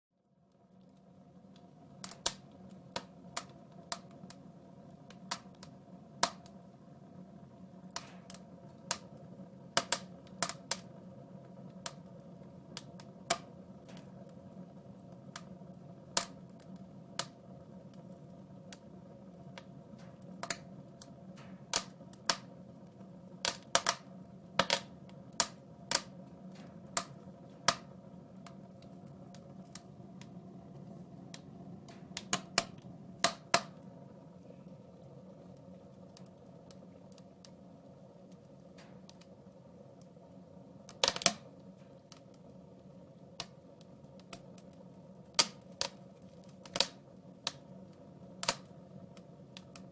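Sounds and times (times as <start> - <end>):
steady low hum: 0.2 - 49.9
wood fire crackling: 0.2 - 49.9.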